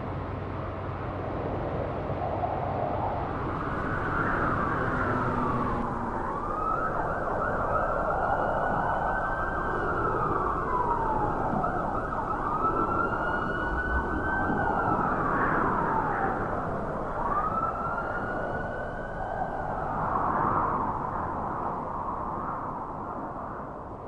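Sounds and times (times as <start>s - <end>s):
city traffic hum: 0.0s - 24.0s
emergency siren wailing: 3.2s - 23.6s.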